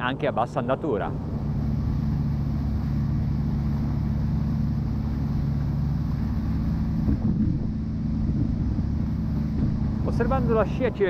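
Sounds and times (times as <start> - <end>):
boat engine running: 0.0 - 11.0
hull and water noise: 0.0 - 11.0.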